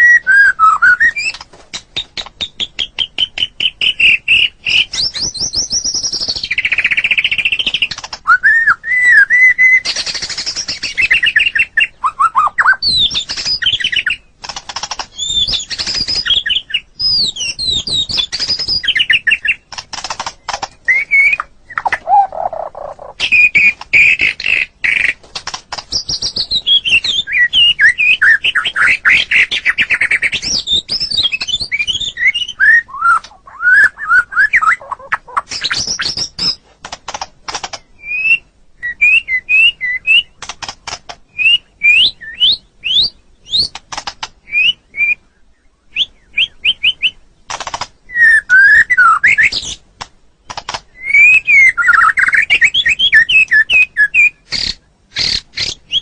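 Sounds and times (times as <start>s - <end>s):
songbird singing varied song: 0.0s - 36.6s, 37.6s - 56.0s.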